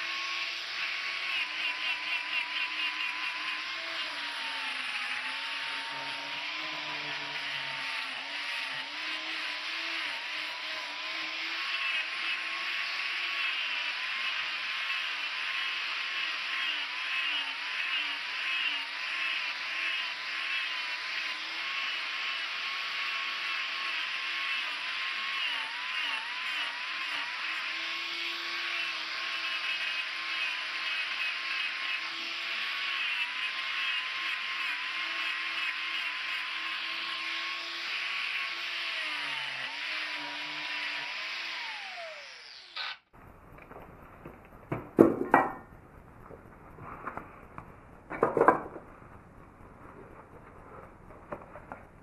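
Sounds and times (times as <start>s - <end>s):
angle grinder carving wood: 0.0s - 43.2s.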